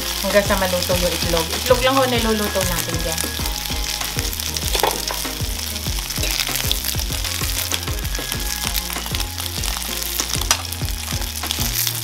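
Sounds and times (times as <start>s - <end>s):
background music with bass beat: 0.0s - 12.0s
omelette sizzling in oil: 0.0s - 12.0s.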